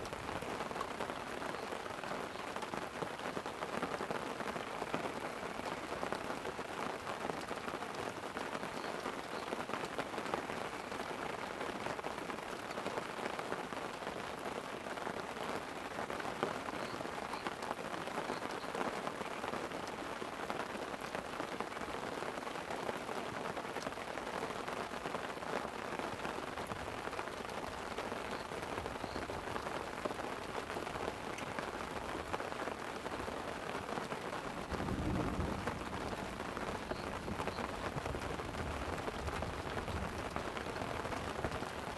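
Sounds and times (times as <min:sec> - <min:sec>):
light rain on a tent: 0:00.0 - 0:41.9.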